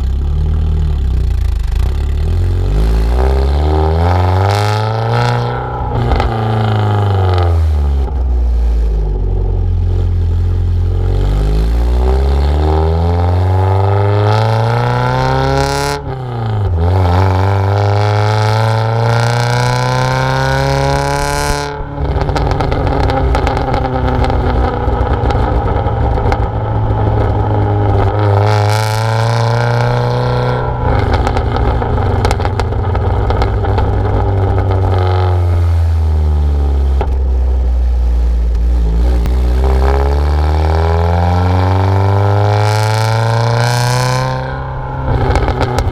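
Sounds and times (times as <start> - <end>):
car engine revving through exhaust: 0.0 - 45.9.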